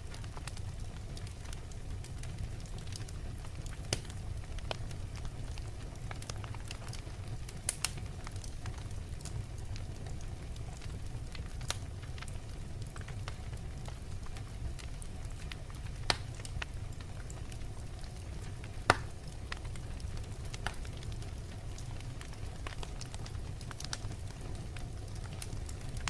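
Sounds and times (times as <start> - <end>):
fire crackling and popping: 0.0 - 26.0
low rumble of fire: 0.0 - 26.0.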